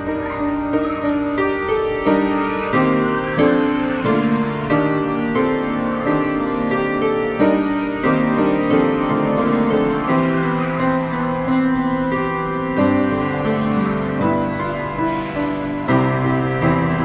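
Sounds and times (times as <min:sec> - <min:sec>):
piano playing a slow hymn: 0:00.0 - 0:17.0.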